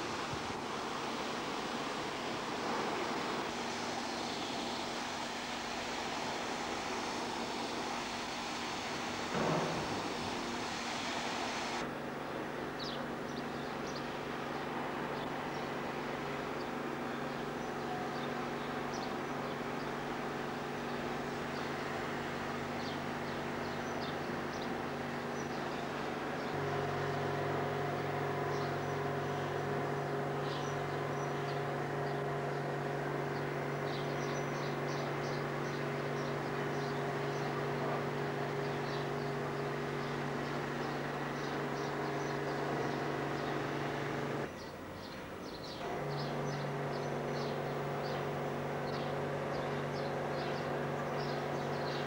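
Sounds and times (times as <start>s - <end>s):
diesel locomotive engine idling: 0.0s - 52.0s.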